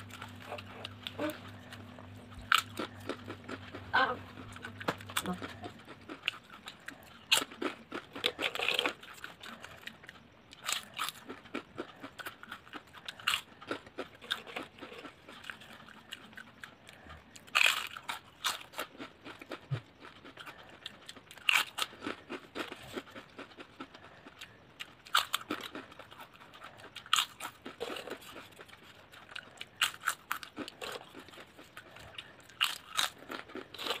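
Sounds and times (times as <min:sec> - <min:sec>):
chips crunching while chewed: 0:00.0 - 0:34.0.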